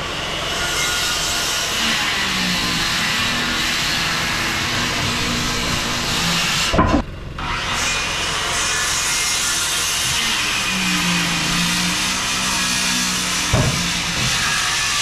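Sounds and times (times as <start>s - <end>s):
circular saw cutting wood: 0.4s - 15.0s.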